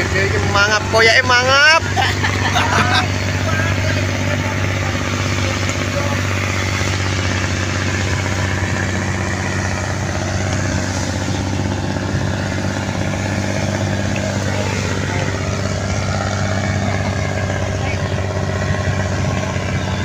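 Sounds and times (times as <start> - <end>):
boat engine running: 0.0 - 20.0
wind and water rushing: 0.0 - 20.0.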